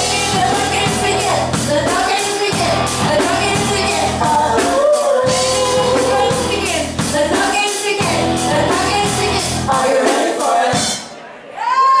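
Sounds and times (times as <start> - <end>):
person singing: 0.0 - 11.0
rock band playing live: 0.0 - 11.1.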